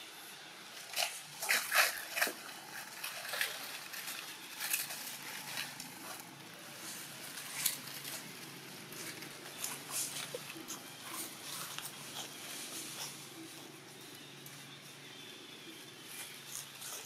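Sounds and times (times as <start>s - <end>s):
leaves rustling and crackling: 0.7s - 17.0s.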